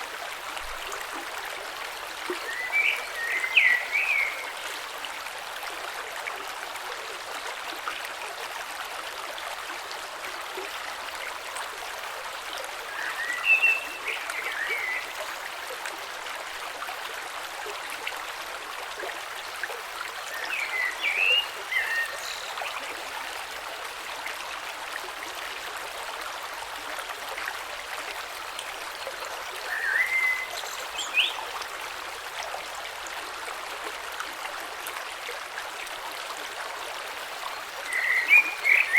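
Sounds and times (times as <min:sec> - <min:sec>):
creek flowing over stones: 0:00.0 - 0:38.9.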